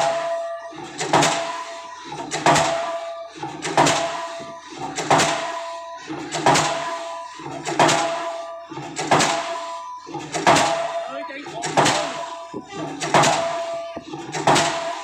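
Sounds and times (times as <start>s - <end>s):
pile hammer heavy blows: 0.0s - 15.0s.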